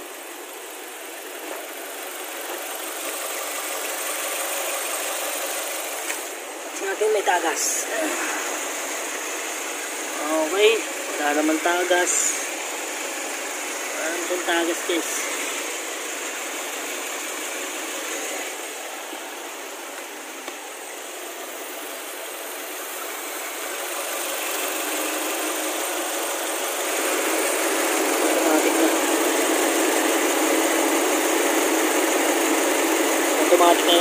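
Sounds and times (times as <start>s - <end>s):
car engine idling: 0.0s - 34.0s
electric radiator cooling fan: 0.0s - 34.0s.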